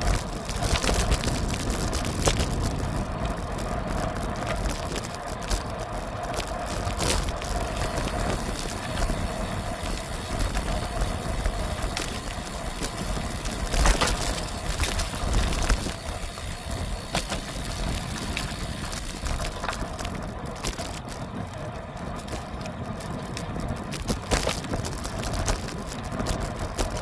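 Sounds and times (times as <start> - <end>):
bicycle tyres rumbling on path: 0.0 - 27.0
wind rushing over microphone: 0.0 - 27.0.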